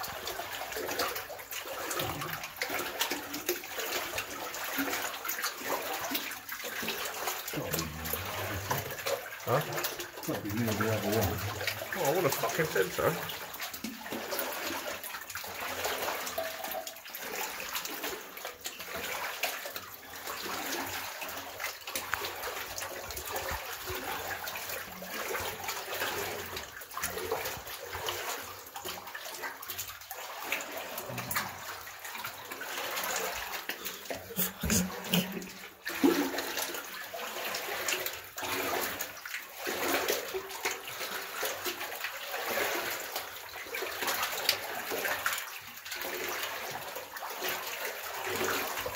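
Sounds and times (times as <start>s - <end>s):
boots wading through water: 0.0s - 48.9s
sharp splash: 0.0s - 48.9s.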